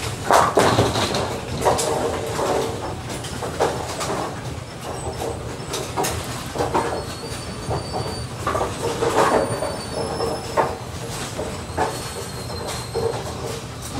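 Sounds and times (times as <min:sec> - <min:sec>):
bowling balls and pins clattering: 0:00.0 - 0:13.9
pinspotters rumbling and humming: 0:00.0 - 0:13.9.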